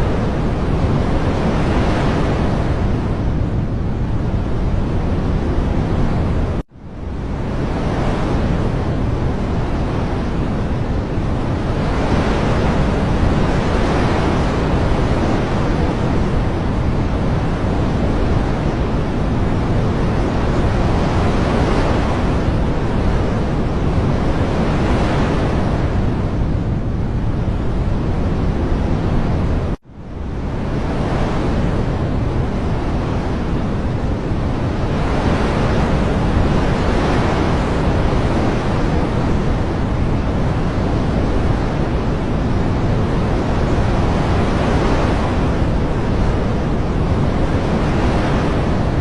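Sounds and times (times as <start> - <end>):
steady rushing noise: 0.0 - 49.0.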